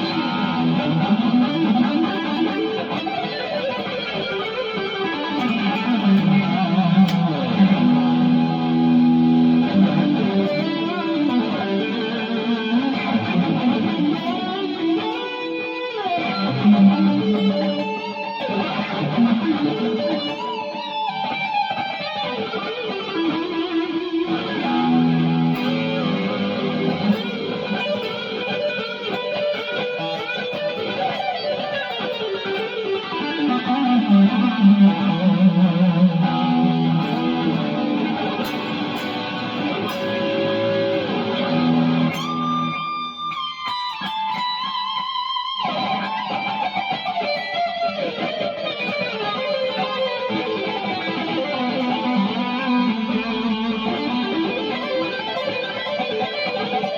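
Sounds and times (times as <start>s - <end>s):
electric guitar lead lines: 0.0s - 56.9s.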